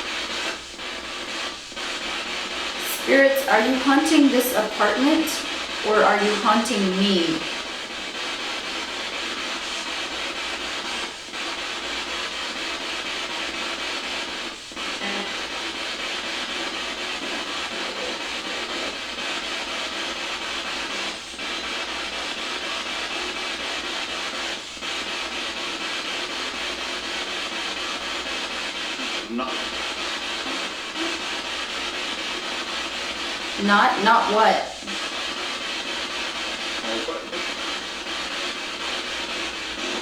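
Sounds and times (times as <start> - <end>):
radio static hiss: 0.0 - 40.0.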